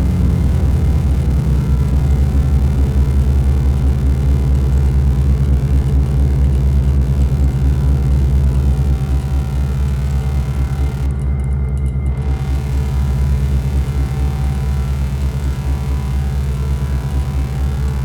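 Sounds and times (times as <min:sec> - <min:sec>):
deep bass synth throbbing: 0:00.0 - 0:18.0.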